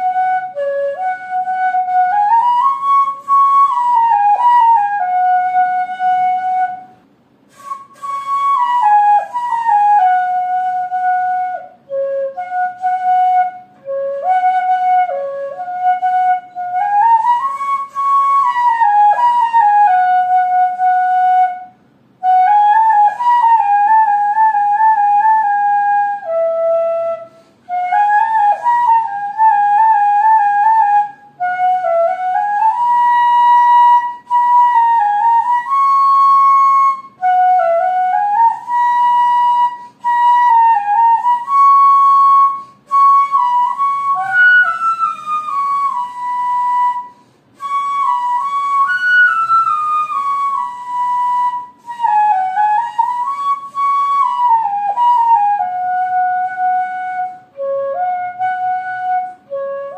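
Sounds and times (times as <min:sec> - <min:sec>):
solo flute melody: 0:00.0 - 0:59.9.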